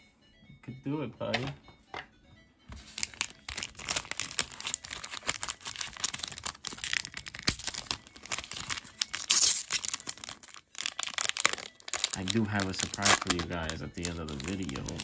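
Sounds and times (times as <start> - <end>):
foil pack crinkling and tearing: 2.8 - 15.0.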